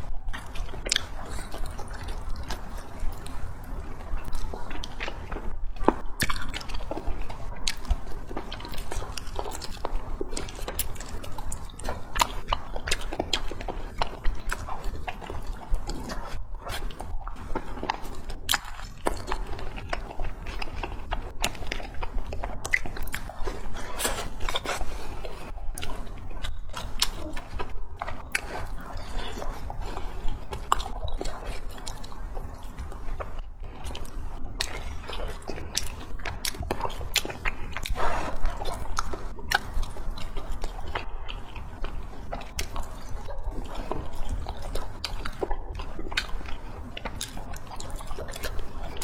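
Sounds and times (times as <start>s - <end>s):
steady low hum: 0.0s - 49.0s
wet chewing and mouth smacks: 0.0s - 49.0s.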